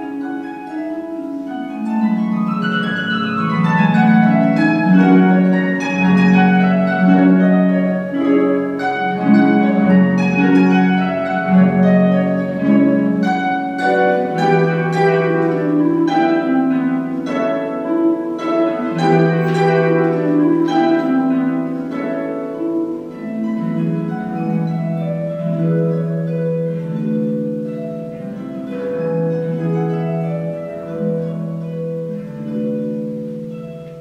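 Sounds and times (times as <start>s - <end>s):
harp plucked notes and chords: 0.0s - 34.0s.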